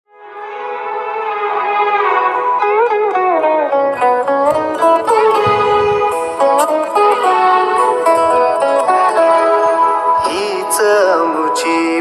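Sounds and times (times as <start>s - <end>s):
plucked string melody with sliding notes: 0.1s - 12.0s.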